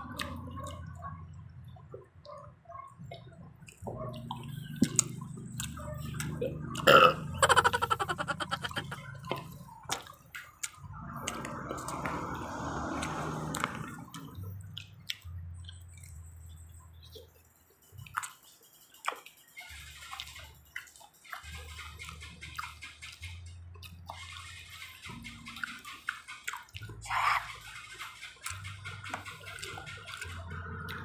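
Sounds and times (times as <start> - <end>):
wet chewing and lip-smacking: 0.0 - 31.0.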